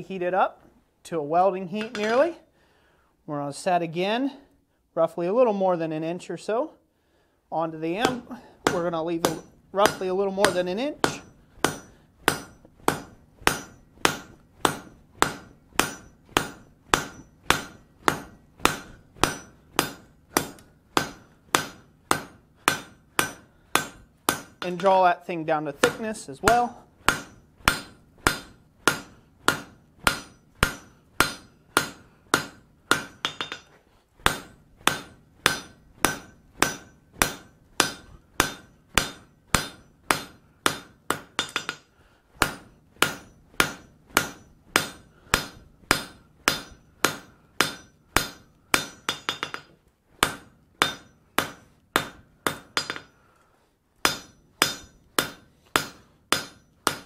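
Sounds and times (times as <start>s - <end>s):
hammer striking steel on anvil: 1.8s - 2.2s, 8.0s - 25.0s, 25.8s - 53.2s, 54.0s - 57.0s.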